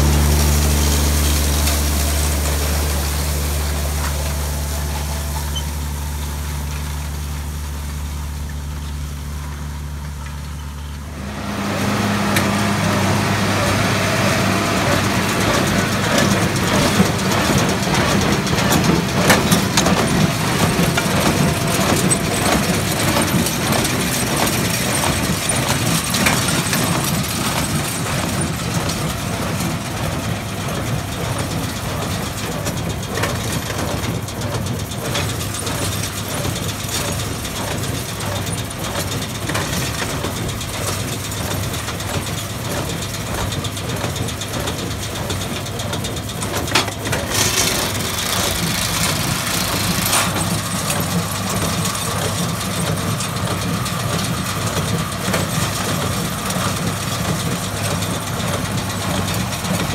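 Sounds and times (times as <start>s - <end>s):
tractor engine running under load: 0.0s - 59.9s.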